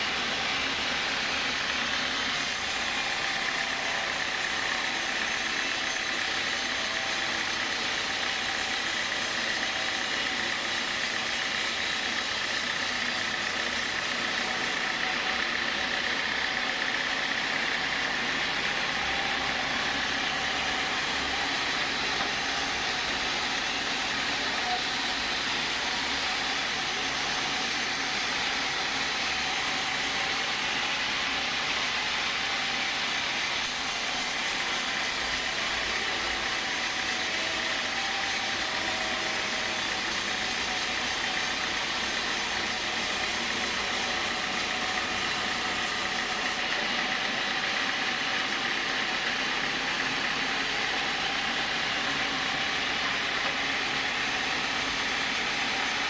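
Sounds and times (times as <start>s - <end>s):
sawmill machinery drone and whine: 0.0s - 56.0s.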